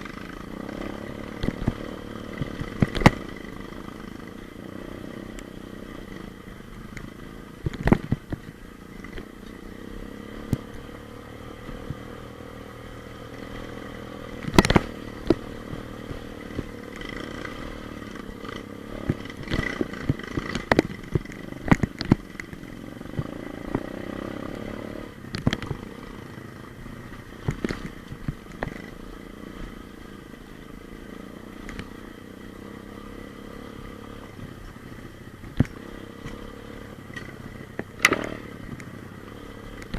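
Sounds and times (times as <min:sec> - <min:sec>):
pit bike engine running: 0:00.0 - 0:39.9.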